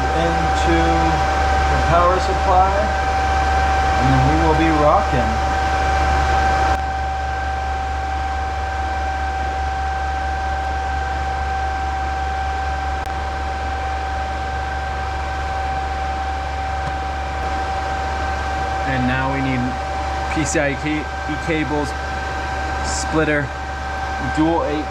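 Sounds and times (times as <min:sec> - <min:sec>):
cooling fans whirring: 0:00.0 - 0:24.9
high-pitched whine: 0:00.0 - 0:24.9
low hum: 0:00.0 - 0:24.9.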